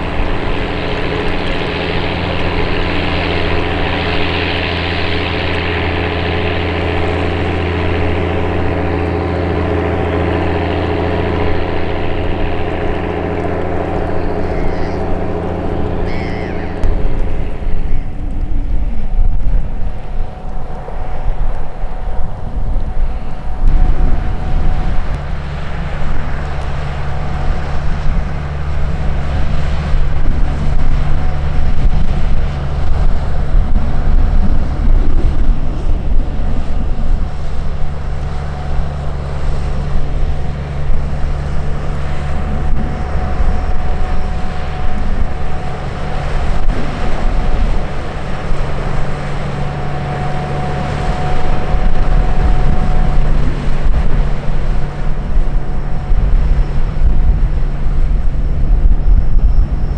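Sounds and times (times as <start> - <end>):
boat diesel engine drone: 0.0 - 59.9
faint steady whine: 0.0 - 59.9.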